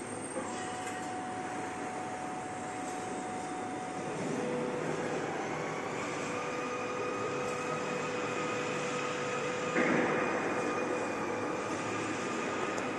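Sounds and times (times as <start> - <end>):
whining tones: 0.0 - 12.9
workshop machinery hum: 0.0 - 12.9.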